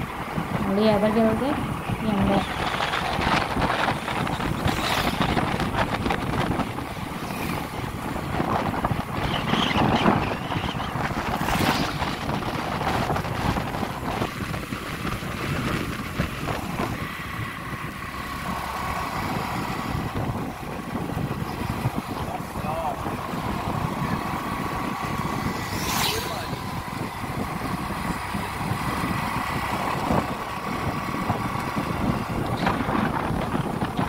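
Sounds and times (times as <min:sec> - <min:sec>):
vehicle road noise: 0:00.0 - 0:34.0
wind buffeting microphone: 0:00.0 - 0:34.0.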